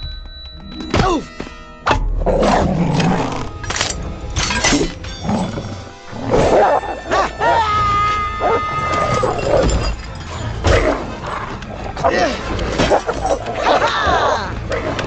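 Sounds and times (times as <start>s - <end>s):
action soundtrack music: 0.0s - 15.0s.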